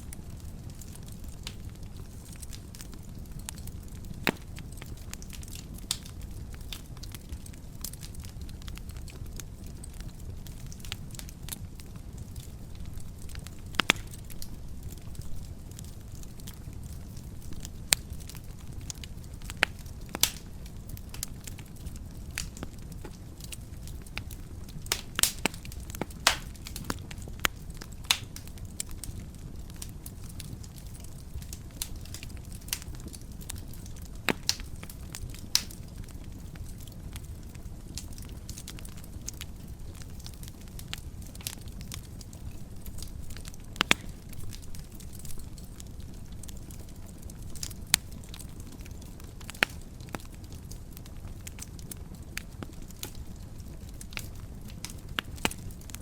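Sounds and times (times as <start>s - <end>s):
low rumble of fire: 0.0s - 56.0s
wood fire crackling and popping: 0.0s - 56.0s.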